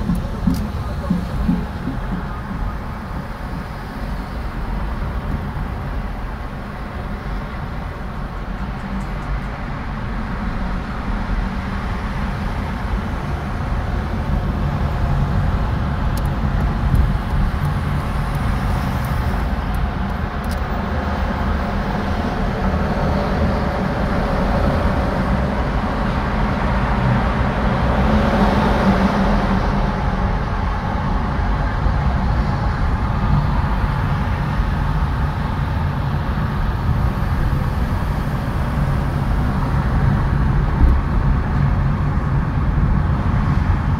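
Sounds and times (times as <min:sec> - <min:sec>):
engine rumble: 0:00.0 - 0:43.9
road and tyre noise: 0:00.0 - 0:43.9.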